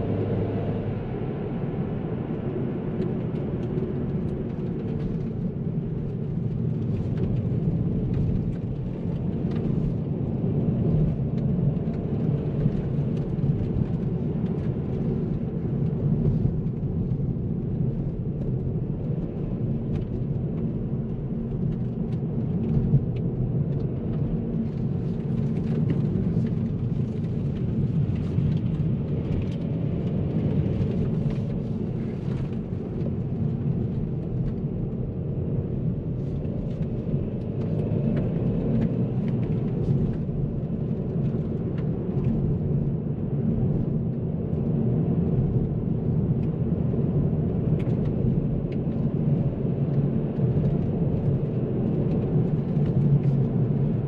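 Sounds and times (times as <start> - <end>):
car engine drone: 0.0 - 54.0
tyre road rumble: 0.0 - 54.0.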